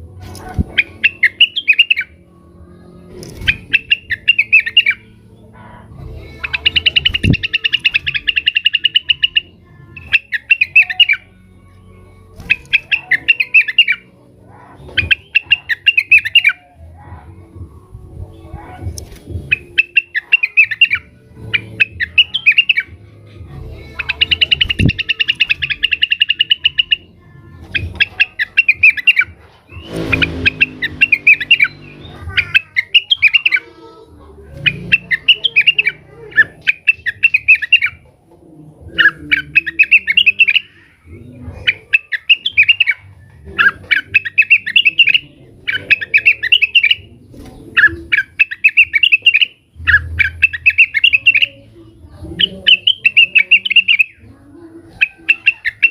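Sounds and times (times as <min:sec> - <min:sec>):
bird chattering song: 0:00.0 - 0:02.2, 0:03.1 - 0:05.5, 0:06.1 - 0:16.8, 0:18.7 - 0:23.0, 0:23.8 - 0:38.1, 0:38.8 - 0:55.9.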